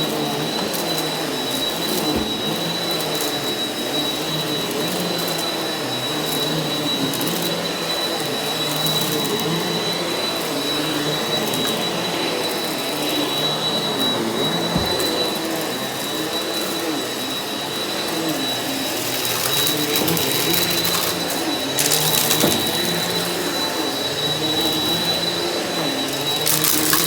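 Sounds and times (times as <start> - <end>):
vacuum cleaner running over carpet: 0.0 - 27.0.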